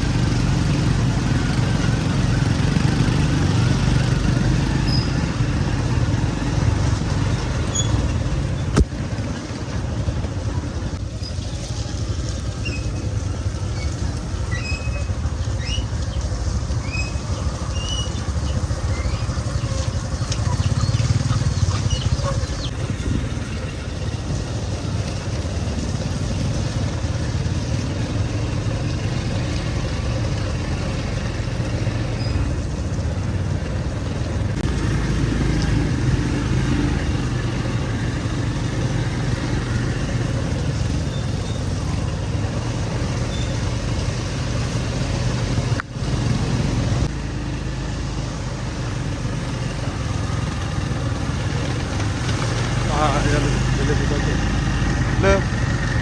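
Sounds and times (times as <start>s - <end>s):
motor vehicle running: 0.0s - 56.0s.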